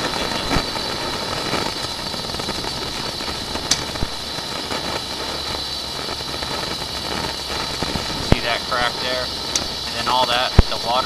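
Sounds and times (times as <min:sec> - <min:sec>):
high whine: 0:00.0 - 0:11.0
machine hum and hiss: 0:00.0 - 0:11.0.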